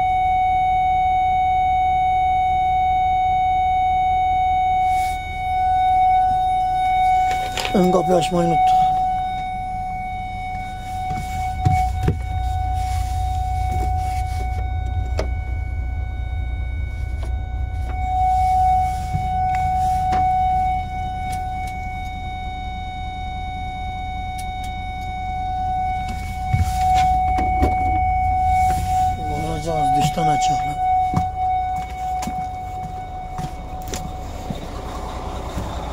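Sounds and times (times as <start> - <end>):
warning buzzer steady tone: 0.0 - 35.9
low rumble: 4.7 - 35.9.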